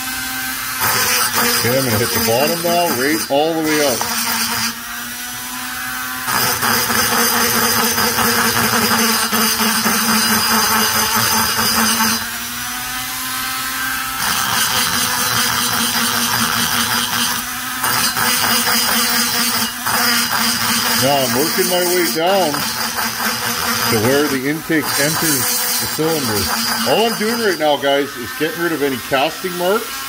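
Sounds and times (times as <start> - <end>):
rotary tool motor whine: 0.0 - 30.0
burr grinding metal: 0.6 - 30.0.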